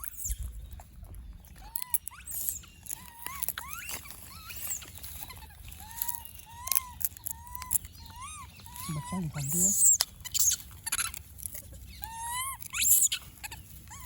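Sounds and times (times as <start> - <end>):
baby monkey squeaky calls: 0.0 - 0.6, 1.5 - 14.0.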